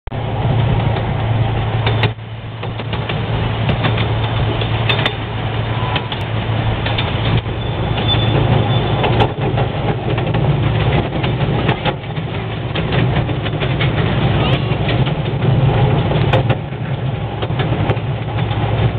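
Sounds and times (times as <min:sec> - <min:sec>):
low engine hum: 0:00.1 - 0:18.9
train cars clicking on track: 0:00.1 - 0:18.9.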